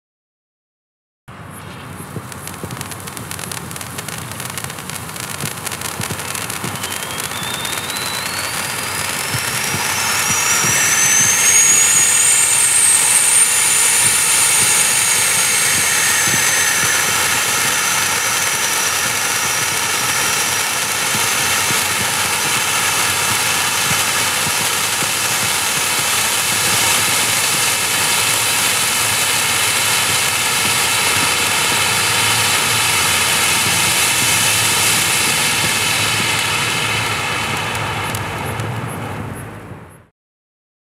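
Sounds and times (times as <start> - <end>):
firework fountain hissing: 1.4 - 40.0
firework whistle: 1.4 - 40.1.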